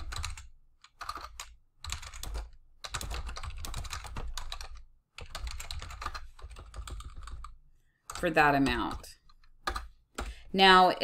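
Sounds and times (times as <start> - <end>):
computer keyboard typing: 0.0 - 10.4.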